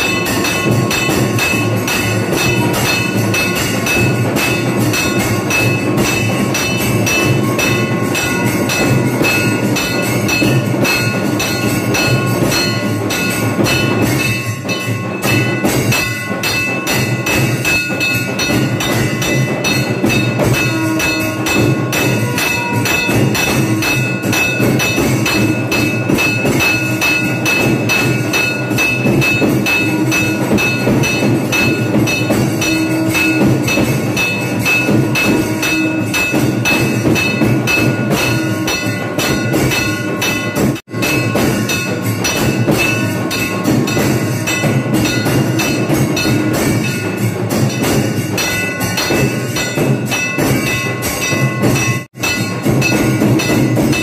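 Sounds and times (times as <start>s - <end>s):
drum beats: 0.0s - 54.0s
temple bells ringing rapidly: 0.0s - 54.0s.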